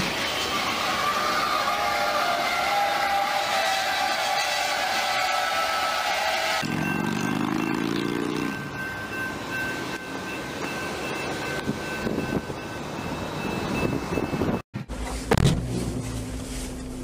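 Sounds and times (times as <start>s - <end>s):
train wheels squealing: 0.0s - 14.6s.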